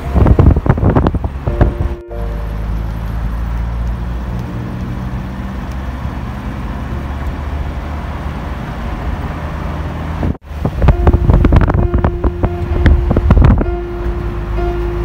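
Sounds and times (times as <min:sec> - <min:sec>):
car interior engine and road rumble: 0:00.0 - 0:15.0.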